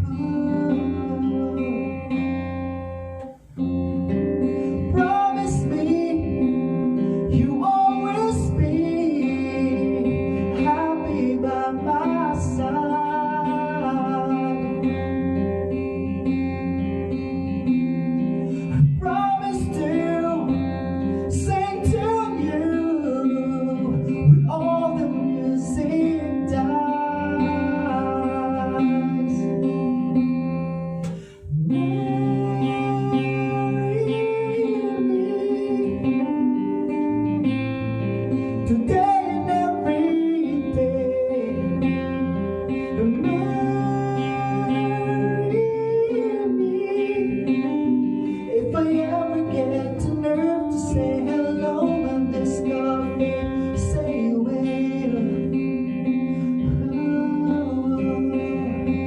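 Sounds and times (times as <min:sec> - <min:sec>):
acoustic guitar playing: 0:00.0 - 0:59.0
person singing: 0:00.0 - 0:59.0.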